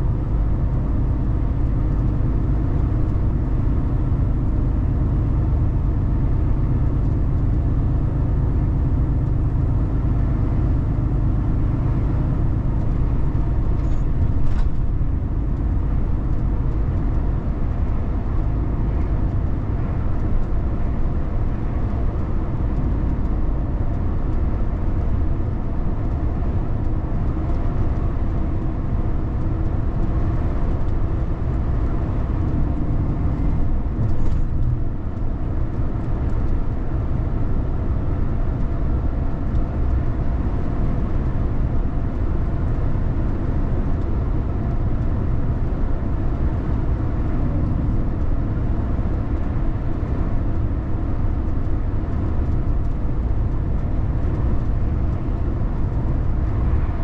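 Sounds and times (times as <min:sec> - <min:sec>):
vehicle driving on road: 0:00.0 - 0:57.0.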